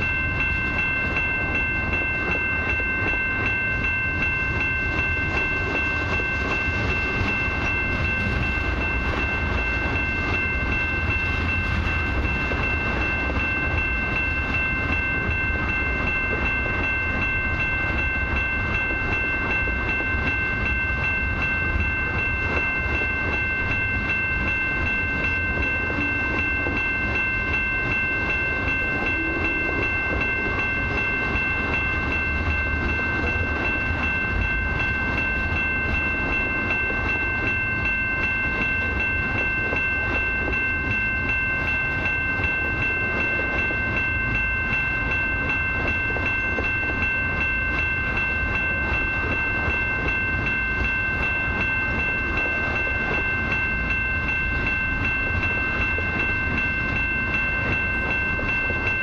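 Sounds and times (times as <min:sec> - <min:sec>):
freight train wheels rumbling: 0:00.0 - 0:59.0
high-pitched ringing tones: 0:00.0 - 0:59.0.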